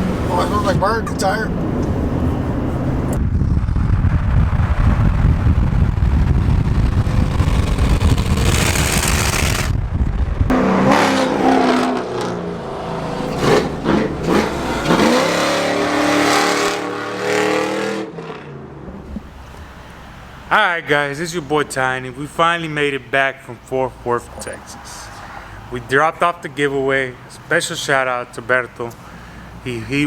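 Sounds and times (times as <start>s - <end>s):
car engines revving: 0.0s - 3.2s, 3.8s - 9.8s, 10.5s - 29.8s.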